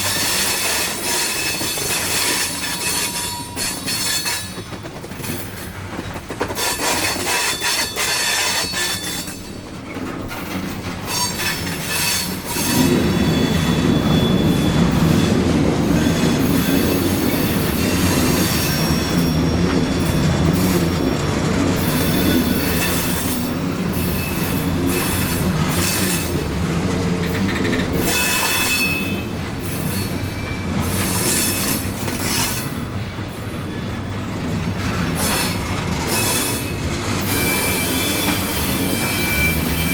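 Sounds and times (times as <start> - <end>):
wheels squealing: 0.0 - 32.9, 33.7 - 39.9
freight cars rolling on rails: 0.0 - 39.9.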